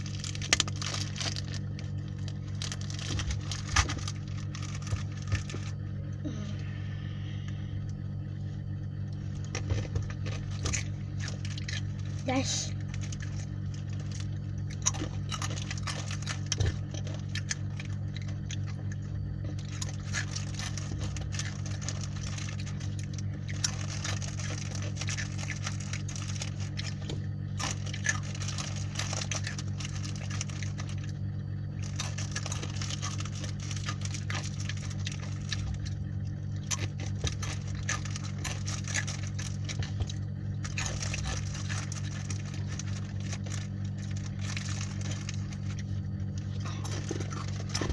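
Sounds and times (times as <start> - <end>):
snack being chewed crunchily: 0.0 - 5.8, 8.9 - 47.9
low hum: 0.0 - 47.9.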